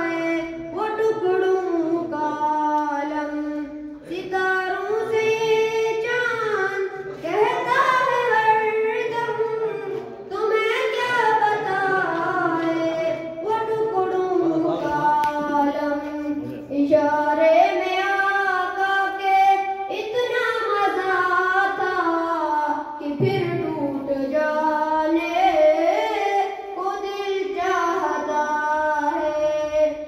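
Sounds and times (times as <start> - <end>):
boy singing unaccompanied: 0.0 - 30.0.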